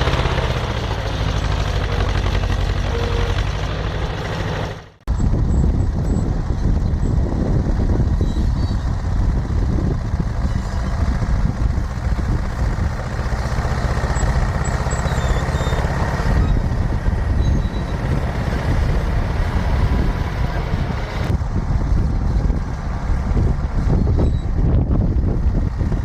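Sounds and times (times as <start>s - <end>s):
crawler dozer engine droning: 0.0s - 26.0s.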